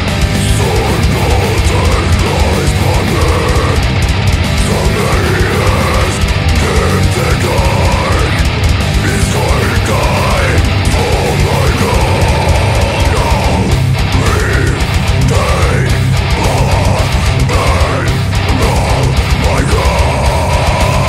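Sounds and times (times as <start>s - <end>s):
distorted guitars and bass: 0.0s - 21.0s
fast drumming: 0.0s - 21.0s.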